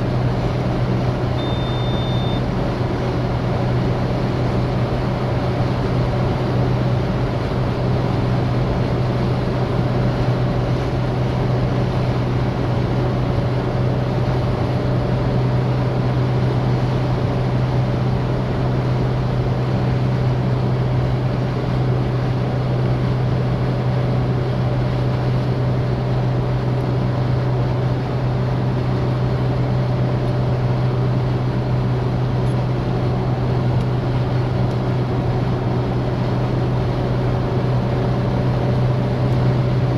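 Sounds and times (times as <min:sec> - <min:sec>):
car engine hum: 0:00.0 - 0:39.9
road and wind noise: 0:00.0 - 0:39.9.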